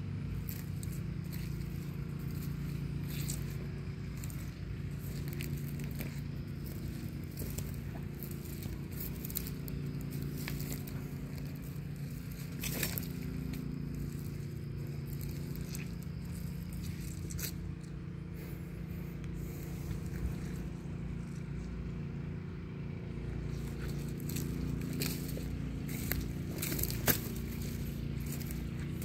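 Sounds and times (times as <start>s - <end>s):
footsteps crunching on dry leaves: 0.0s - 29.0s
low hum: 0.0s - 29.0s
twigs crackling: 0.2s - 18.6s, 23.2s - 29.0s.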